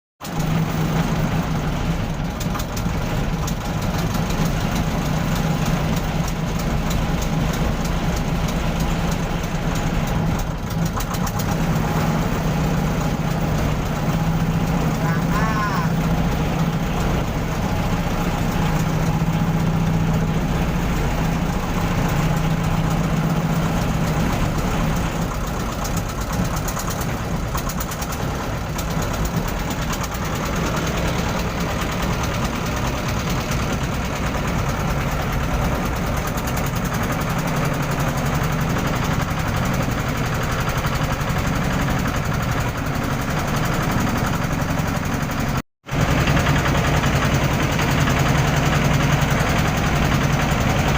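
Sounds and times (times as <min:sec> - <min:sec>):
engine running steadily: 0:00.2 - 0:50.9.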